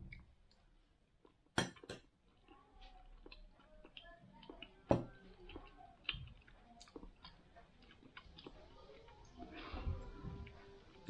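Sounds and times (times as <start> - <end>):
chewing and mouth sounds: 0.0 - 11.0.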